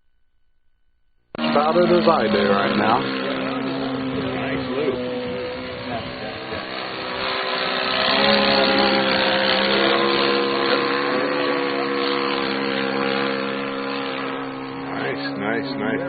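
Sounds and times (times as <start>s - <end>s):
model airplane engine and propeller: 1.3s - 16.0s.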